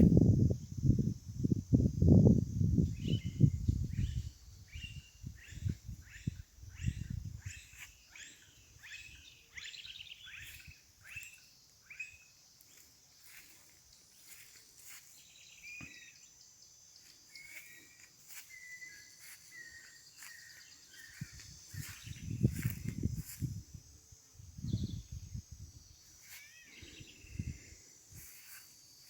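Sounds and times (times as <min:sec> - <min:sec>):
songbirds singing: 0:02.7 - 0:23.7, 0:24.5 - 0:29.0.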